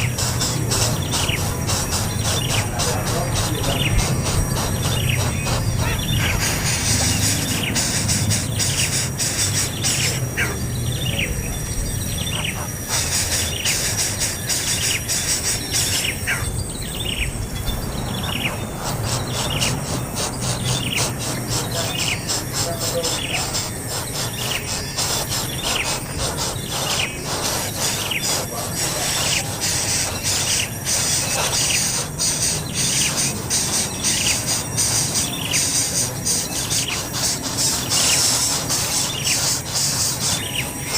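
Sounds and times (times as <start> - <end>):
bird chirping: 0.0 - 40.9
insects buzzing: 0.0 - 40.9.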